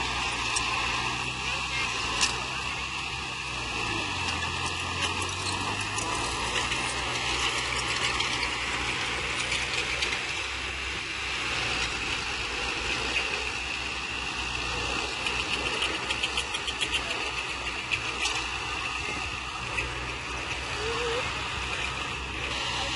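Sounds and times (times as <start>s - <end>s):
heavy machinery diesel engine: 0.0s - 22.9s.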